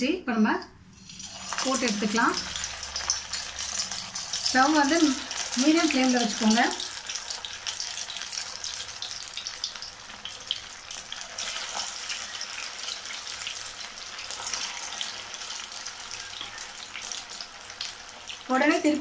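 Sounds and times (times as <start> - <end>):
food deep-frying in hot oil: 0.8 - 19.0.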